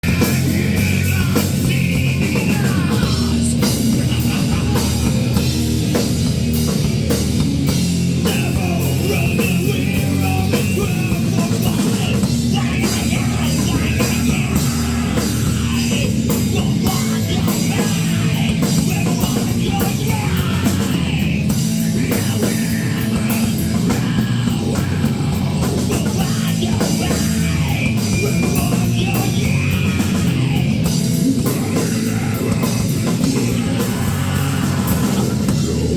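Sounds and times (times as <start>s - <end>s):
drum kit beat: 0.0s - 35.9s
rock band playing live: 0.0s - 35.9s.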